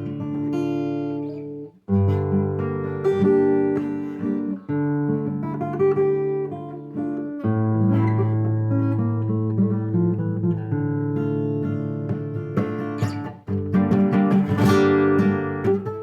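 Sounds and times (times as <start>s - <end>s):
acoustic guitar waltz: 0.0s - 16.0s.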